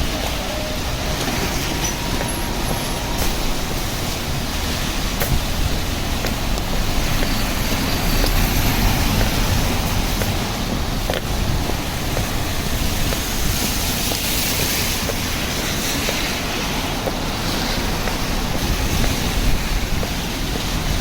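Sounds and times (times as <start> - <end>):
rain: 0.0 - 21.0
traffic on wet streets: 0.0 - 21.0.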